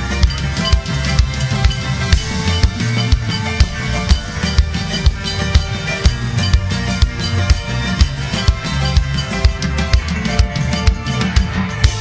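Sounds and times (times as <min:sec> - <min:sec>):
drum kit beat: 0:00.0 - 0:12.0
sustained keyboard chords: 0:00.0 - 0:12.0.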